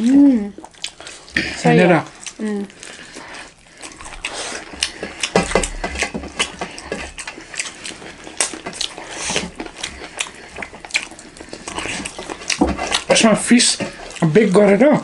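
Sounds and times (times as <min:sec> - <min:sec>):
chewing and lip smacks: 0:00.0 - 0:14.8.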